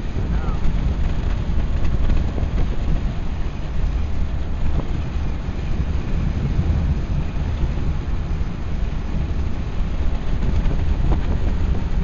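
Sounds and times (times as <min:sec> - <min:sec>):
car engine running: 0:00.0 - 0:12.0
road noise: 0:00.0 - 0:12.0
wind noise: 0:00.0 - 0:12.0.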